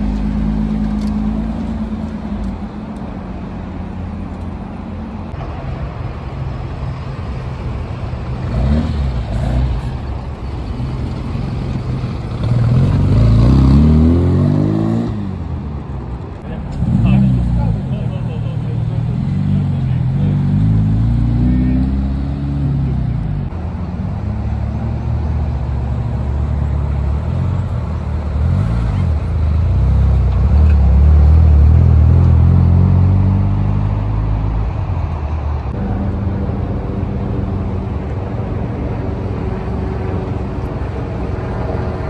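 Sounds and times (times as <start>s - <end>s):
car engines rumbling: 0.0s - 42.0s.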